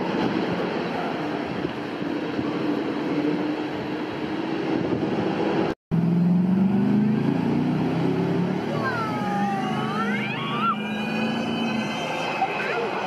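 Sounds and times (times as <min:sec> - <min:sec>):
street noise: 0:00.0 - 0:13.0
vehicle engines rumbling: 0:00.0 - 0:13.0.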